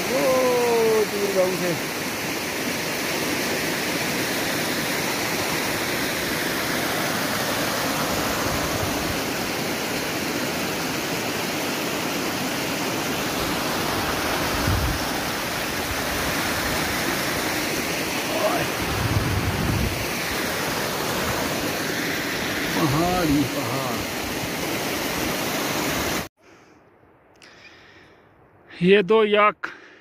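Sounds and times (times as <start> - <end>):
stream rushing over rocks: 0.0 - 26.3.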